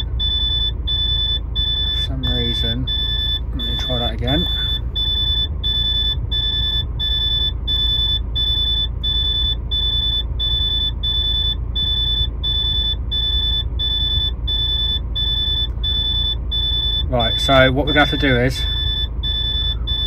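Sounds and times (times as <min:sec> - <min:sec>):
low steady rumble: 0:00.0 - 0:20.0
truck warning buzzer beeping: 0:00.0 - 0:20.0.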